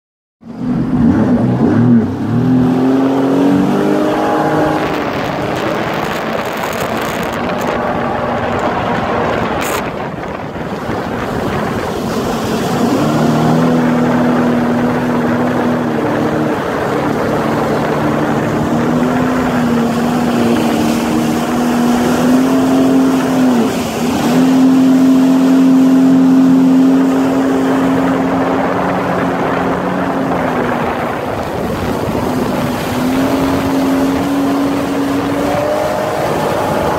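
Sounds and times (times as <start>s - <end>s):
jet ski engine running: 0.4s - 36.9s.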